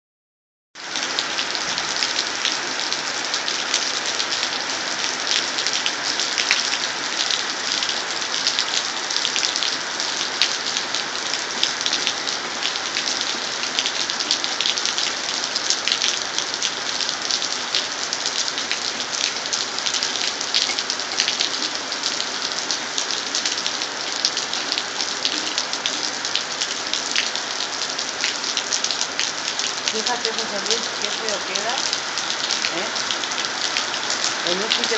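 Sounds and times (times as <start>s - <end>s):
heavy rain splashing: 0.8s - 34.9s.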